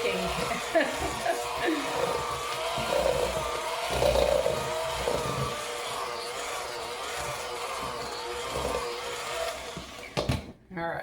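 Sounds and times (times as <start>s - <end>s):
electric hand mixer running: 0.0s - 10.4s.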